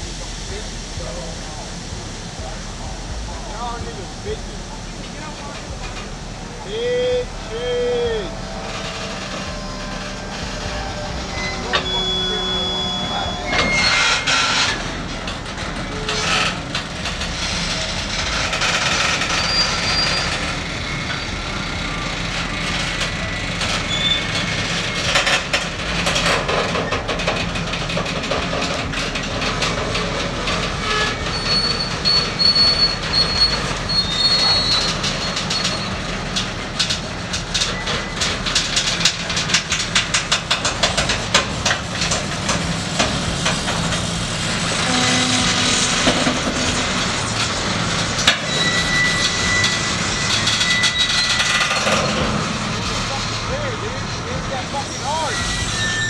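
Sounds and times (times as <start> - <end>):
train wheels clacking on rails: 0.0 - 56.0
high-pitched wheel squeals: 5.8 - 41.1, 43.6 - 56.0.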